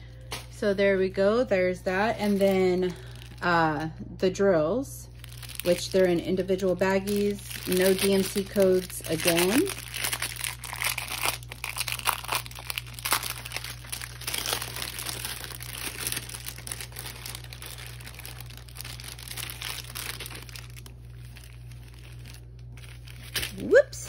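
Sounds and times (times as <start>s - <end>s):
plastic baggies crinkling: 1.6s - 4.0s, 5.1s - 24.0s.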